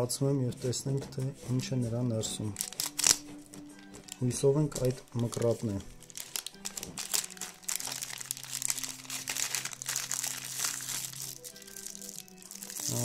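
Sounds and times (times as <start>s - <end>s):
plastic packet crinkling: 2.6s - 13.0s.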